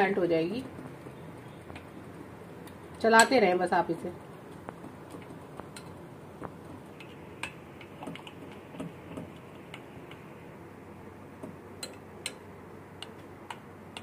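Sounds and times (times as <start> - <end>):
low background noise: 0.0 - 14.0.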